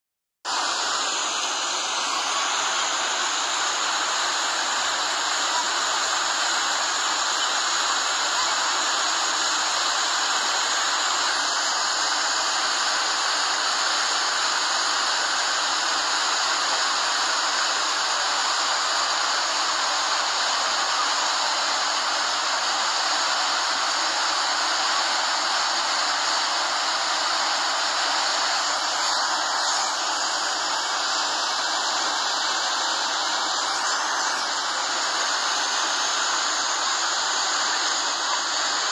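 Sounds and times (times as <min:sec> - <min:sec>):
waterfall rushing: 0:00.5 - 0:38.9.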